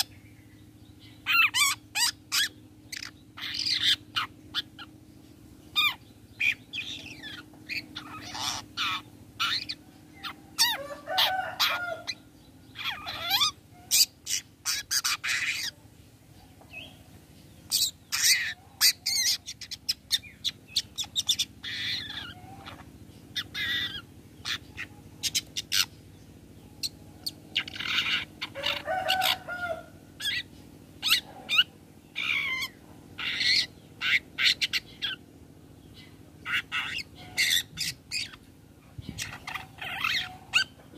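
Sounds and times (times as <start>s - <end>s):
shrike singing high calls: 0.0s - 15.8s, 16.4s - 40.9s.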